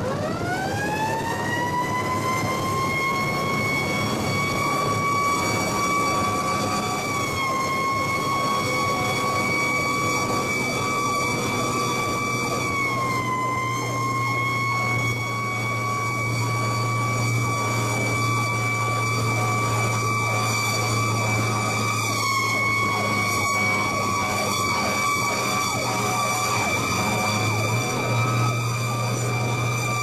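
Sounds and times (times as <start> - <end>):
fire truck siren: 0.0 - 30.0
truck engine running: 0.9 - 30.0.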